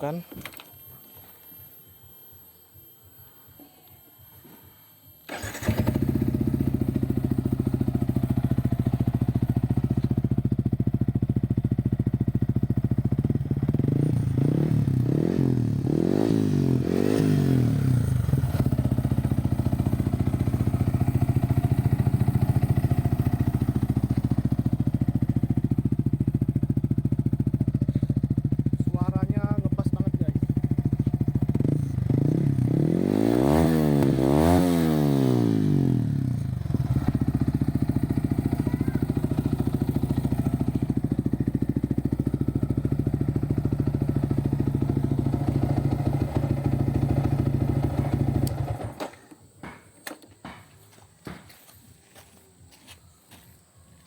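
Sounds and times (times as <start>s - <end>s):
motorcycle engine idling: 4.3s - 54.0s.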